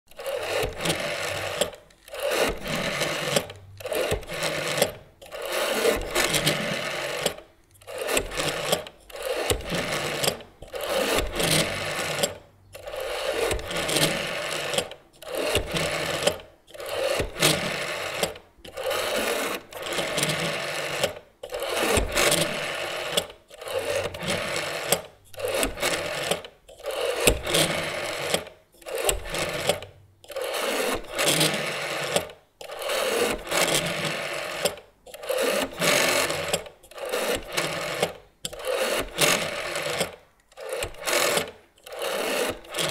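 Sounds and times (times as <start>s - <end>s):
rotary phone dial whirring: 0.1s - 42.9s.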